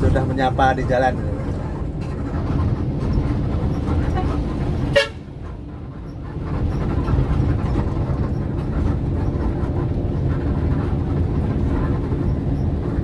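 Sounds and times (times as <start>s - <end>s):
bus engine and tyre rumble: 0.0s - 13.0s.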